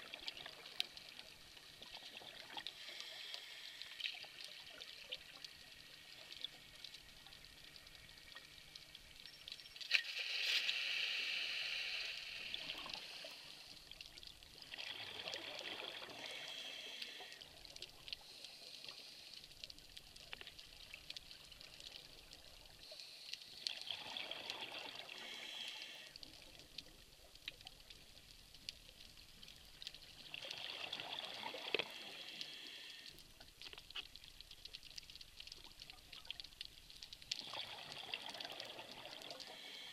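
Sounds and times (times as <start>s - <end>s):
faint hiss: 0.0s - 39.9s.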